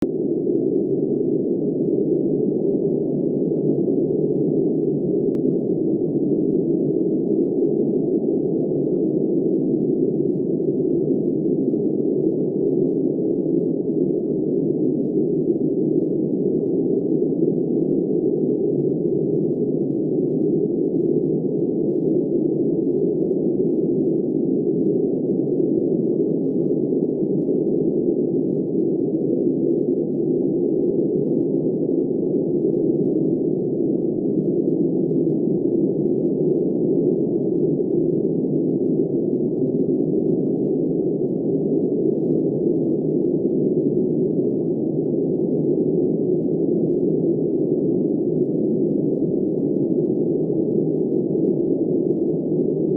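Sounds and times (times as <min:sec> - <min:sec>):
muffled wind noise: 0:00.0 - 0:52.9.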